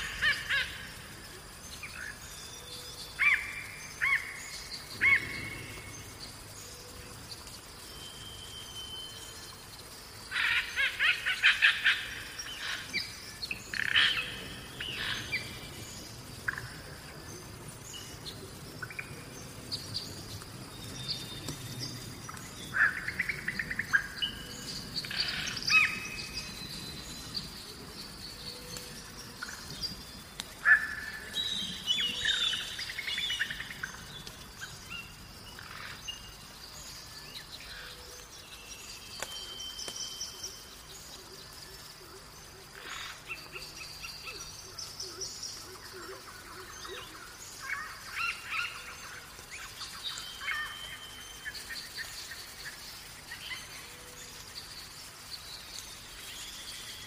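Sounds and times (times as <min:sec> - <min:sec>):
faint background hiss: 0:00.0 - 0:57.0
wild birds chirping and singing: 0:00.0 - 0:57.0.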